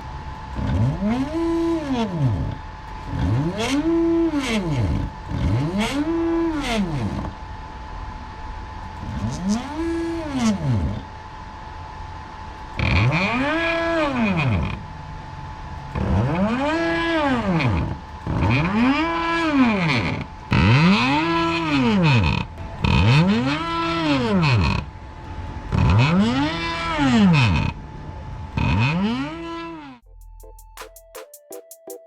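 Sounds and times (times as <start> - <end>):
stepper motor whine: 0.0 - 30.0.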